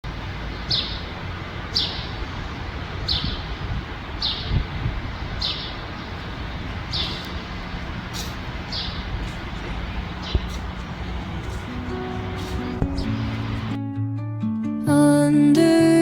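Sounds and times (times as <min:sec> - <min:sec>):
bird chirping: 0:00.5 - 0:13.8.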